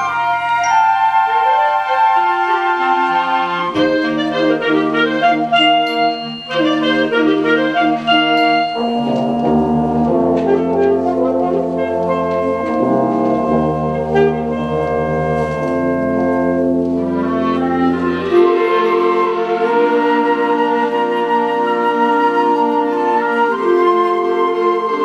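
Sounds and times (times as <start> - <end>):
concert wind band playing: 0.0 - 25.0.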